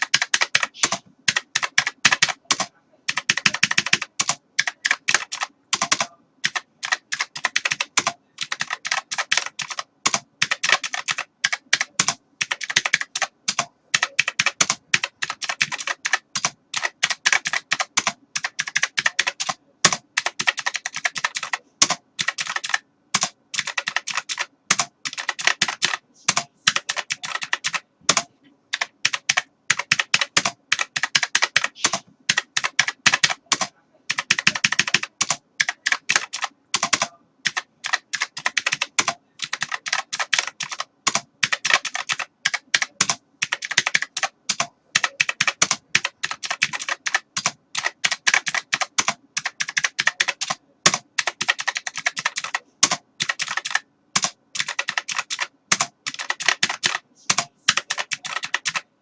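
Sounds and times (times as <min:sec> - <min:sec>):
typing on computer keyboard: 0:00.0 - 0:58.9.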